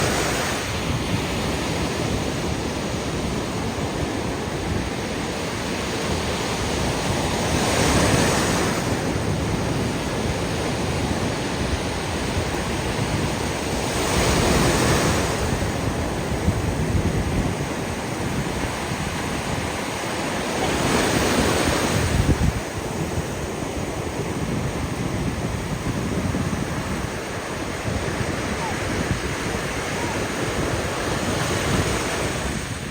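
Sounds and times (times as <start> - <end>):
ocean surf breaking on beach: 0.0 - 32.9
wind rumbling on microphone: 0.0 - 32.9.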